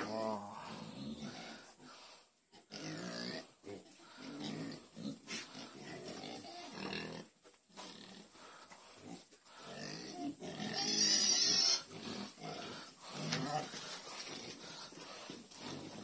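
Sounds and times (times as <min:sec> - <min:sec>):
pigs grunting: 0:00.0 - 0:16.0.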